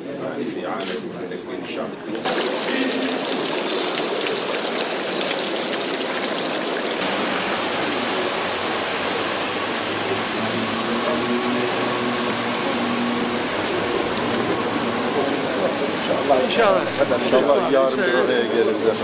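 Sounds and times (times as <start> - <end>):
fountain water splashing: 2.2 - 17.6.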